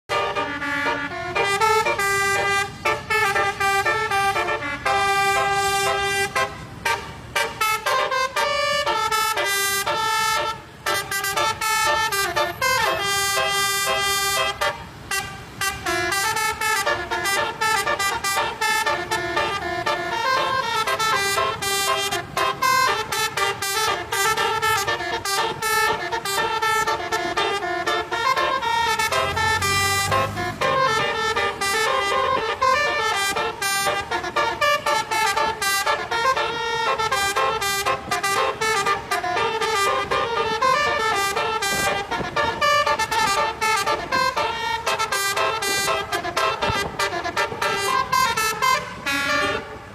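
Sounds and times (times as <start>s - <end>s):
multi-tone horn playing a melody: 0.1s - 49.9s.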